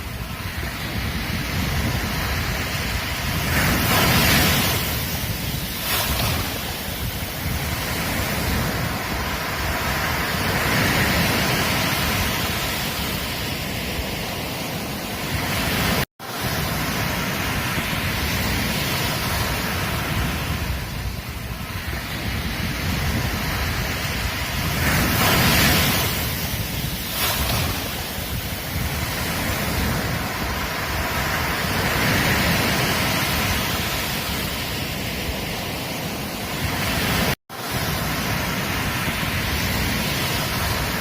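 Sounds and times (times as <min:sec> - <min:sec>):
ocean waves on a beach: 0:00.0 - 0:41.0.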